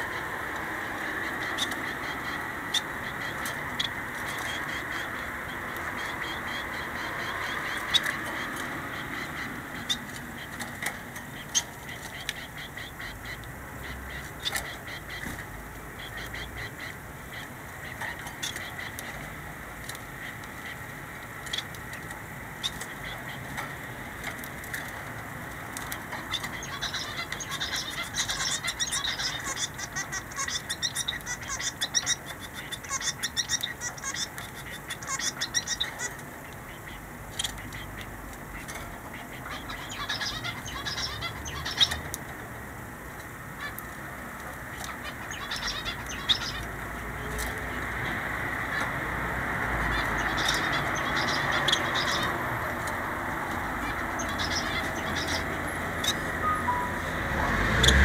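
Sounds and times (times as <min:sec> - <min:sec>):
finches chirping: 0:00.0 - 0:42.4, 0:43.6 - 0:58.0.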